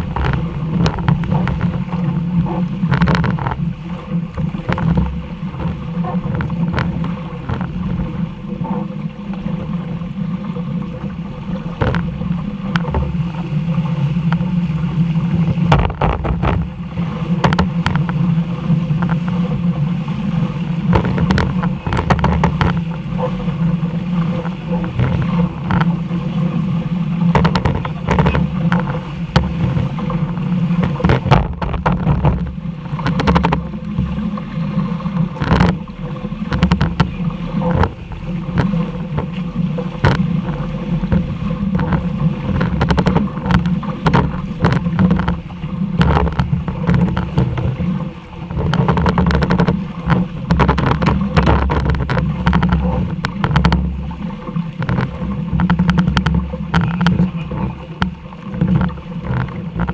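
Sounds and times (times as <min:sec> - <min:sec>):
boat engine drone: 0:00.0 - 0:59.9.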